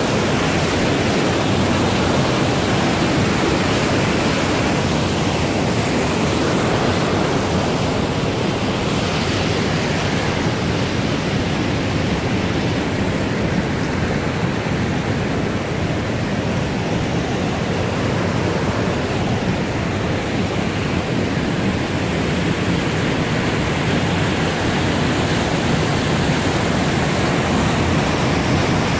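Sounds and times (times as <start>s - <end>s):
creek water rushing over rocks: 0.0s - 28.9s.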